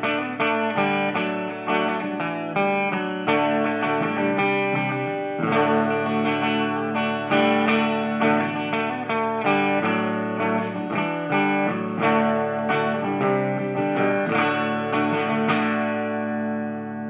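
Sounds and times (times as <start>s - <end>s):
electric guitar notes and chords: 0.0s - 17.0s.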